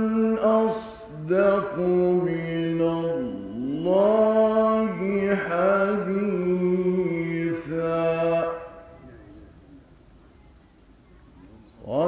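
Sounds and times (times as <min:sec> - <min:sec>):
man chanting melodically: 0:00.0 - 0:09.9, 0:11.7 - 0:12.0.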